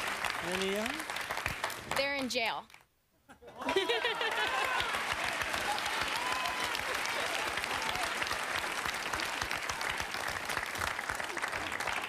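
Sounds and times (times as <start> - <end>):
audience applauding: 0.0 - 2.3, 3.6 - 12.0.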